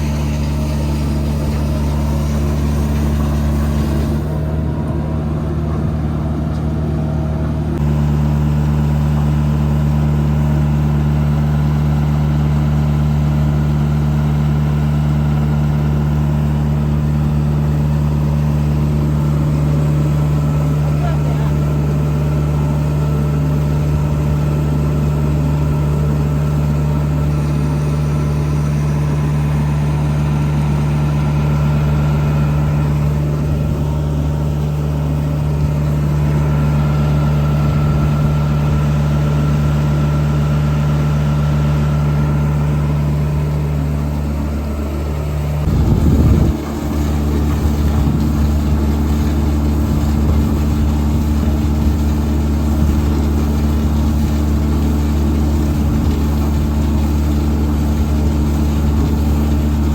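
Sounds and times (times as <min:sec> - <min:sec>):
heavy machine engine idling: 0:00.0 - 0:59.9.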